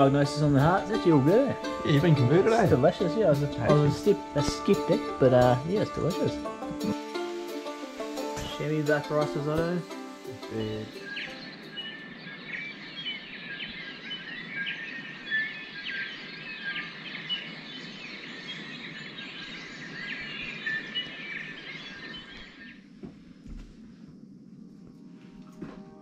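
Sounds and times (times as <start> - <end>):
small birds chirping: 0.0 - 23.6.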